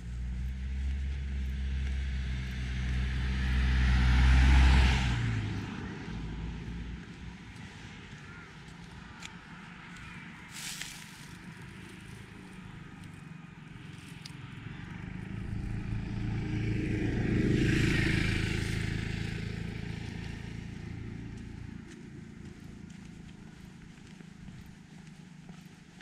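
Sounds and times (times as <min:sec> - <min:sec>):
vehicle driving past: 0:00.0 - 0:08.0, 0:10.7 - 0:25.9.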